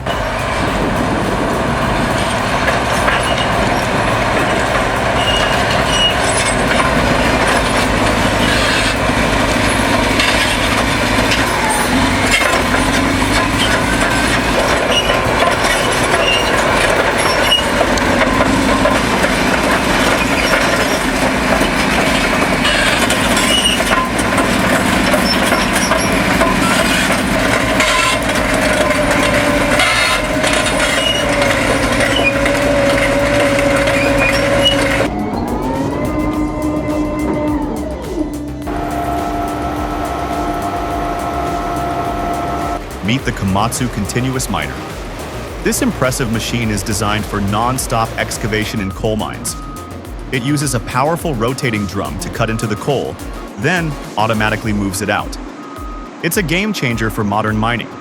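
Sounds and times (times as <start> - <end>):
diesel engine running: 0.0 - 58.0
steel tracks clanking and squealing: 0.0 - 58.0.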